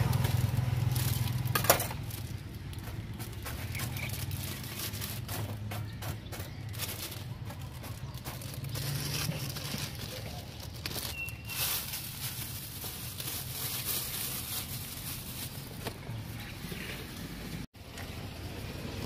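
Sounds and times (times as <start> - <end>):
plastic bag rustling: 0.0 - 17.3.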